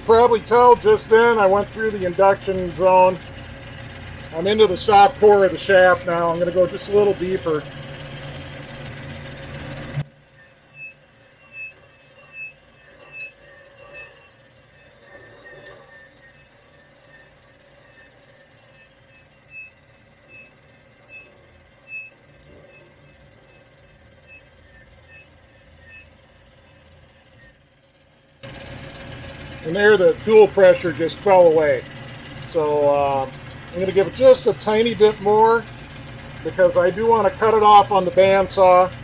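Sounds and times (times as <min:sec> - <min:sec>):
cutting tool high chirp: 0:00.0 - 0:39.0
loud low hum: 0:00.0 - 0:39.0
metal lathe running: 0:00.0 - 0:39.0.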